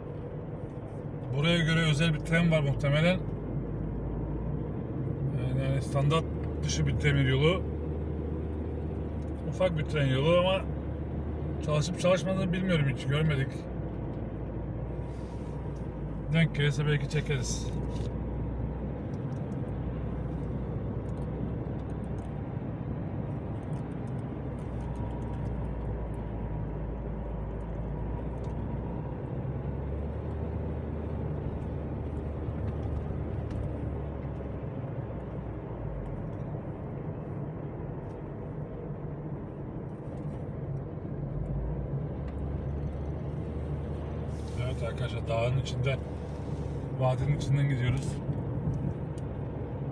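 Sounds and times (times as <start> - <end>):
car engine and tyre noise: 0.0 - 49.9.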